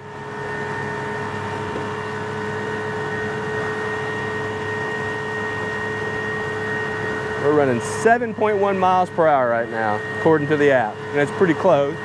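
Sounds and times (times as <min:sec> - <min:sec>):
electric outboard motor whine: 0:00.0 - 0:12.0
wind: 0:00.0 - 0:12.0.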